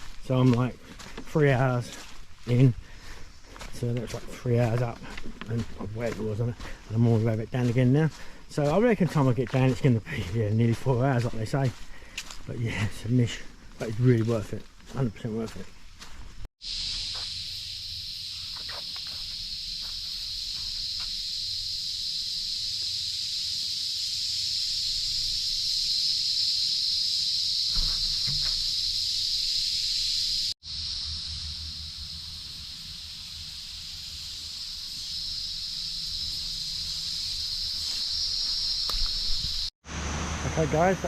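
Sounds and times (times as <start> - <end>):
high-pitched insect chorus: 0.0 - 39.8, 40.5 - 41.0.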